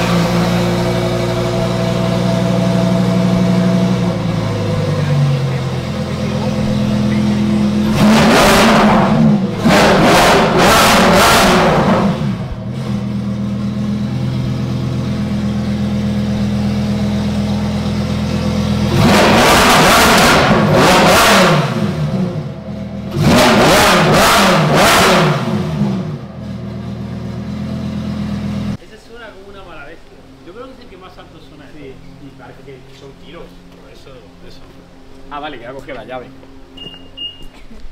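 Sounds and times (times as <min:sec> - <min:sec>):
car engine idling and revving: 0:00.0 - 0:28.8, 0:30.0 - 0:37.9.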